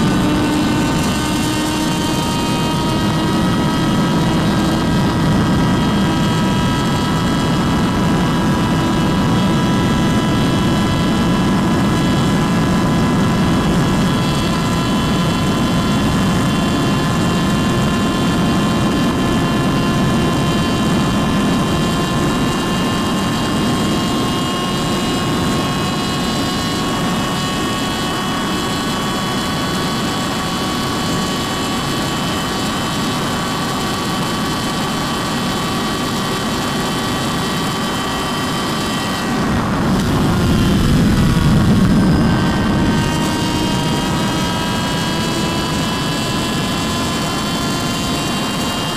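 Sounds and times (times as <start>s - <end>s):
motorcycle engine at high revs: 0.0s - 48.9s
wind rush: 0.0s - 48.9s.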